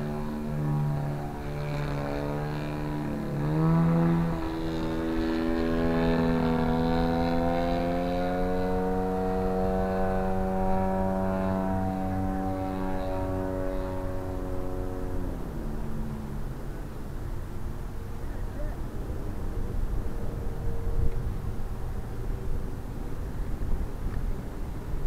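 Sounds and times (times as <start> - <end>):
model airplane engine buzzing: 0.0 - 25.0.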